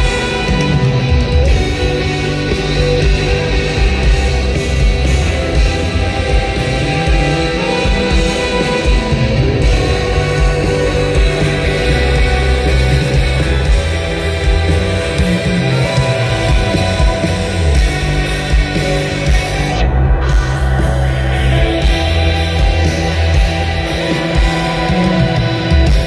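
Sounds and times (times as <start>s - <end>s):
bass guitar: 0.0s - 26.0s
distorted electric guitars: 0.0s - 26.0s.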